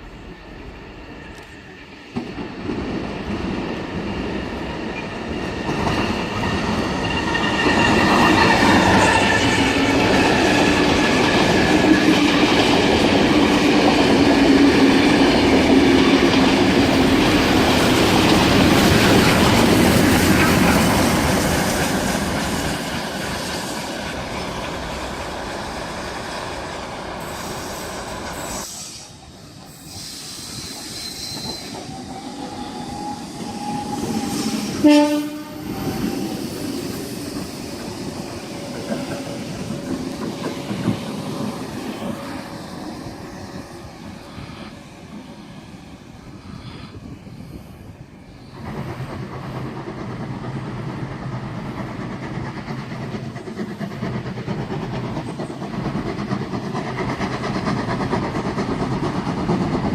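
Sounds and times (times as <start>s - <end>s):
train passing on rails: 0.0s - 59.9s.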